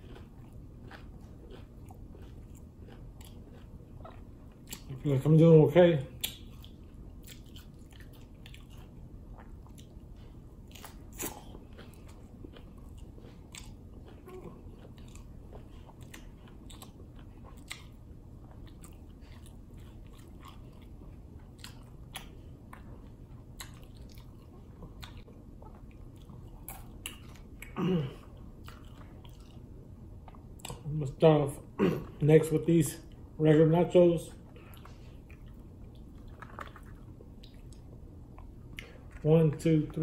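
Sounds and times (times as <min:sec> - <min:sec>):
person chewing crunchy tacos: 0:00.0 - 0:33.4, 0:34.3 - 0:40.0.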